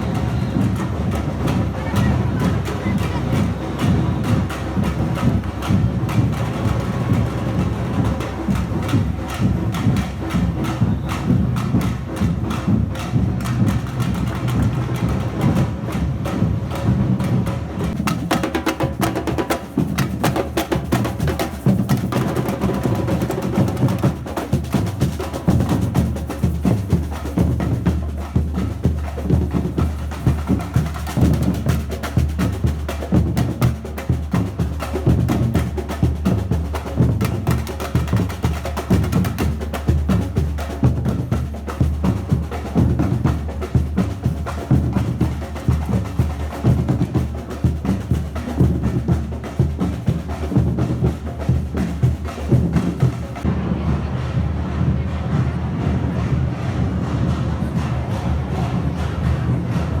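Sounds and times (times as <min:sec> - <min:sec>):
percussion band drumming: 0:00.0 - 1:00.0.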